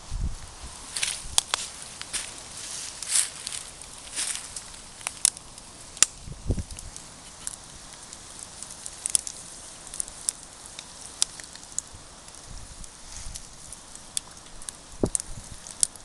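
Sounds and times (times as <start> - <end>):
campfire crackling: 0.0 - 16.0
sharp pops of fire: 0.3 - 16.0.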